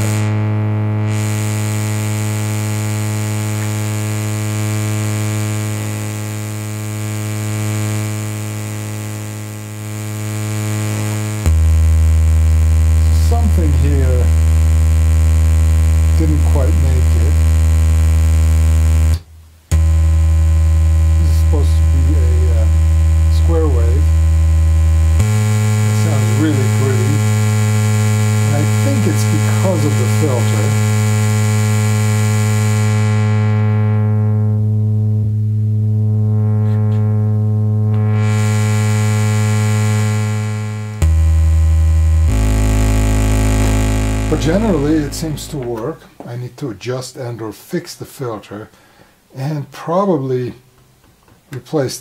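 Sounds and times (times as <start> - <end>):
analog synthesizer low note: 0.0 - 46.2.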